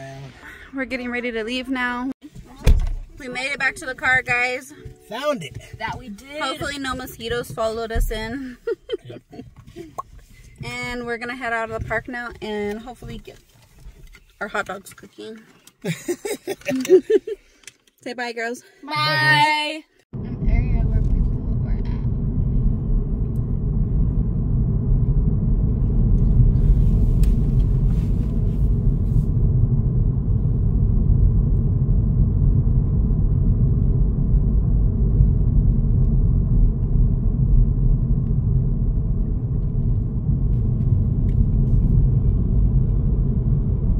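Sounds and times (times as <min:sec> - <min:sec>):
car interior road rumble: 0:00.0 - 0:17.6, 0:20.2 - 0:43.9.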